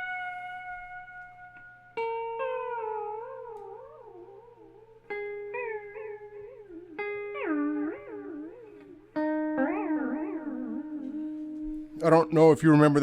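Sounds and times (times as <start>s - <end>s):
electric guitar notes with wavering echoes: 0.0s - 13.0s.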